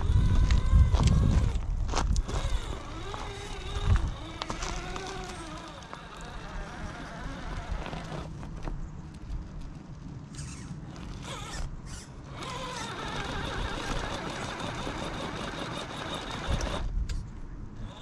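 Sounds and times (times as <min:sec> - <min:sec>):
electric motor whining: 0:00.0 - 0:08.3, 0:10.4 - 0:16.9.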